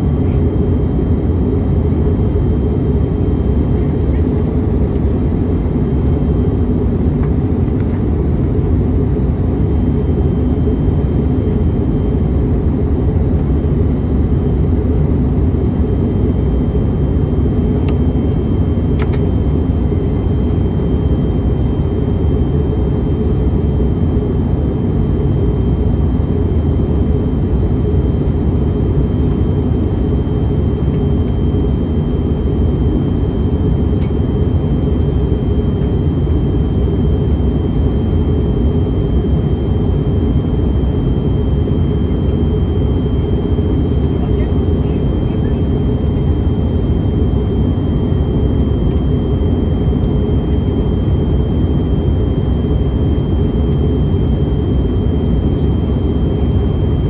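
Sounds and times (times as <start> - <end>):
aircraft cabin engine rumble: 0.0 - 57.0.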